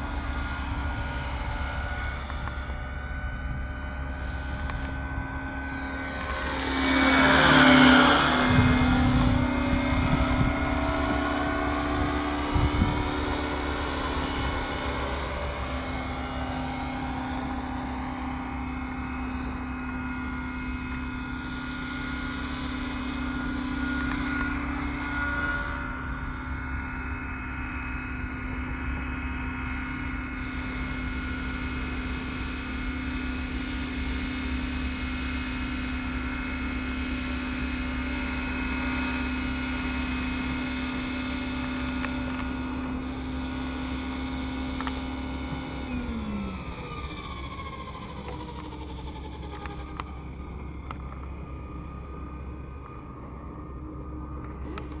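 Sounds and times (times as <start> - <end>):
model helicopter whine: 0.0 - 55.0.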